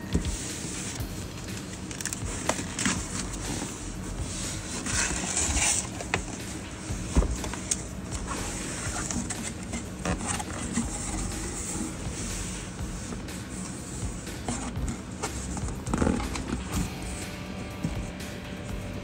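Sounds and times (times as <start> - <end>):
cardboard scraping and rustling: 0.0 - 18.2.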